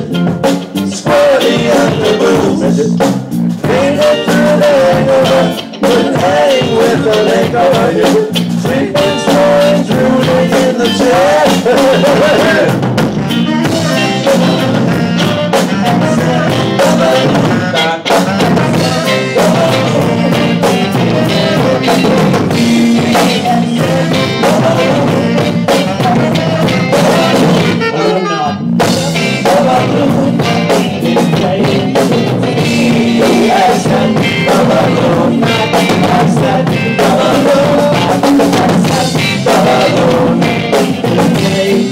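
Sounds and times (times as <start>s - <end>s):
drum kit: 0.0s - 41.9s
rock band playing: 0.0s - 41.9s.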